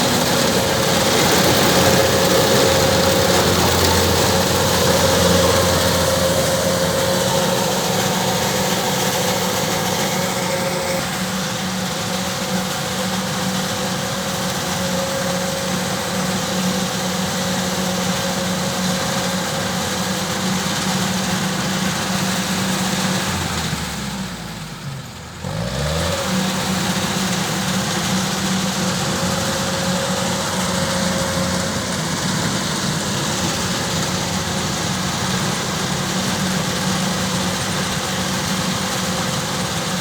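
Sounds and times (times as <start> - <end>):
combine harvester engine droning: 0.0 - 40.0
machinery whirring and rattling: 0.0 - 40.0.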